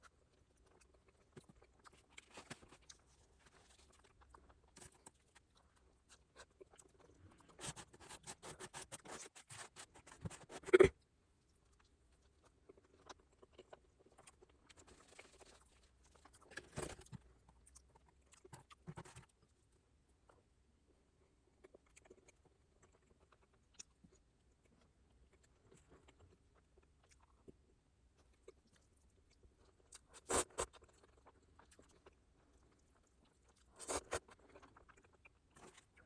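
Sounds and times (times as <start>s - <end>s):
chewing food: 0.0s - 20.5s, 21.3s - 36.0s.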